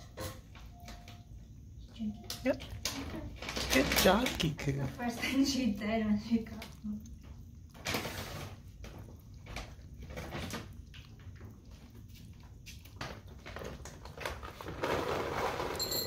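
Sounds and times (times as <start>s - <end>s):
kitten lapping water: 2.3s - 15.6s.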